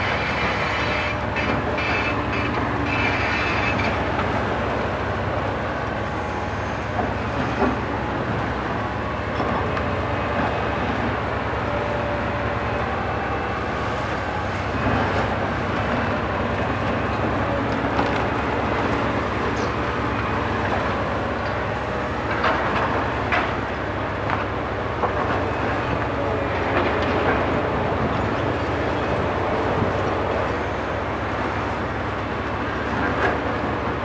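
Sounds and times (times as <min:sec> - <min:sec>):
excavator diesel engine and hydraulics: 0:00.0 - 0:34.0.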